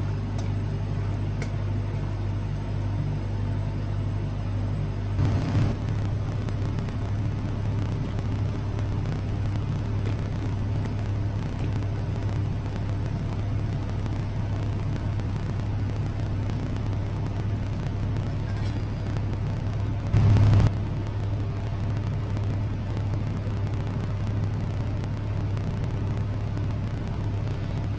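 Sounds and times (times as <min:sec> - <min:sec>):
refrigeration unit humming: 0:00.0 - 0:27.9.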